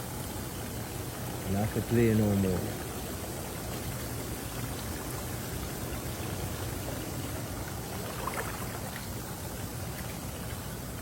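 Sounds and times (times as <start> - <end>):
hot tub water bubbling: 0.0 - 11.0.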